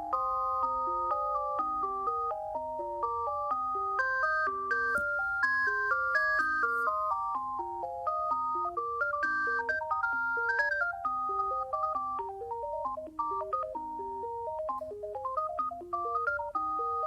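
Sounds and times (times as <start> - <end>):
mobile phone ringtone melody: 0.0 - 17.0.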